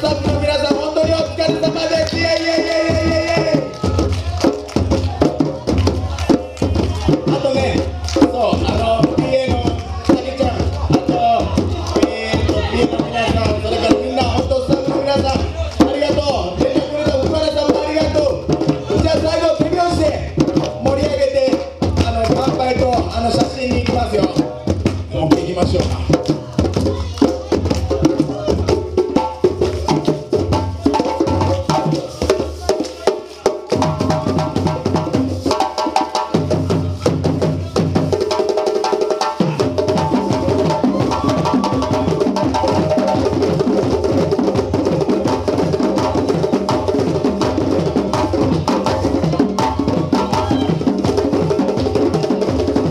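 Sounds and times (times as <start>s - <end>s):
hand drumming: 0.0s - 52.9s.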